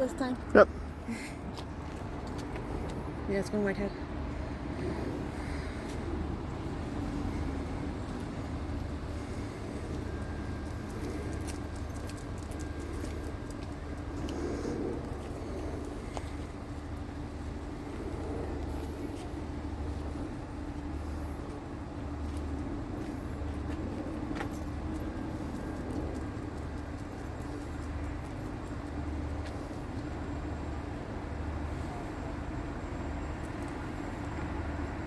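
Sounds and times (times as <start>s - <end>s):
vehicle engine with pulsing throb: 0.0s - 35.0s.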